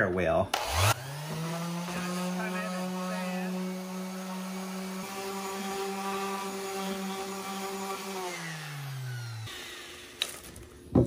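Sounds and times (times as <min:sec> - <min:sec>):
orbit sander on cast iron: 0:00.6 - 0:10.6.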